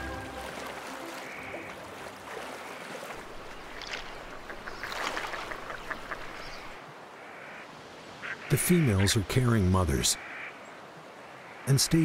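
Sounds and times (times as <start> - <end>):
water splashing and rippling: 0.0 - 12.0.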